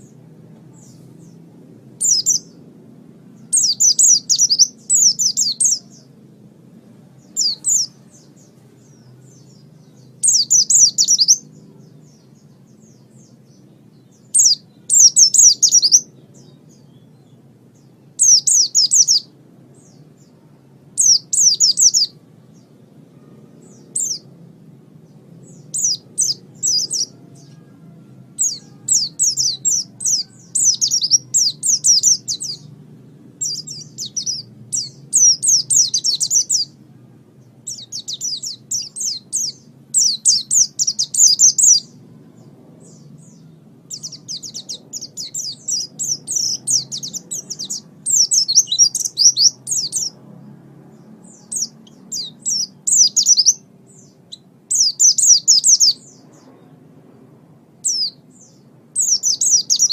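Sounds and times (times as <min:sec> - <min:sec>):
faint low hum: 0:00.0 - 0:59.9
songbird chirping: 0:00.0 - 0:59.9.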